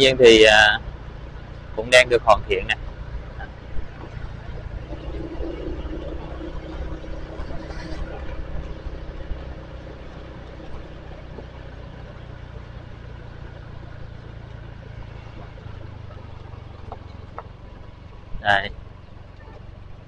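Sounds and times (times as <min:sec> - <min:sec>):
road noise: 0:00.0 - 0:20.0
vehicle engine humming: 0:00.0 - 0:20.0.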